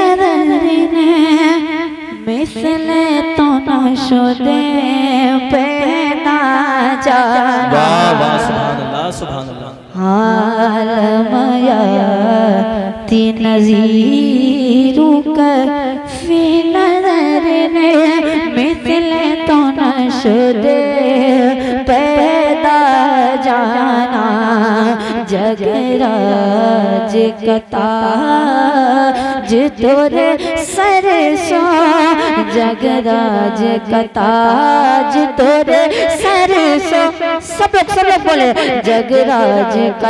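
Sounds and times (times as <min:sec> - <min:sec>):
boy singing into a microphone: 0:00.0 - 0:09.2, 0:09.8 - 0:40.0.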